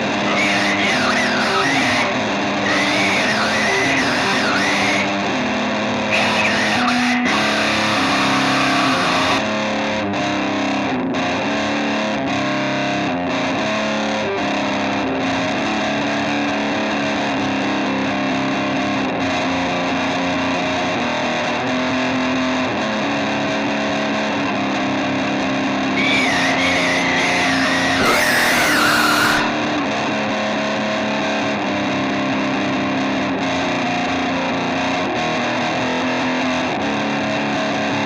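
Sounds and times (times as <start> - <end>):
distorted electric guitar rock music: 0.0 - 38.0.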